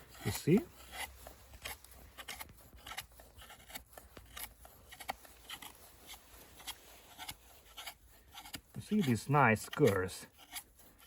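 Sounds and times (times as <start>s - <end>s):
knife scraping wood curls: 0.0s - 11.0s.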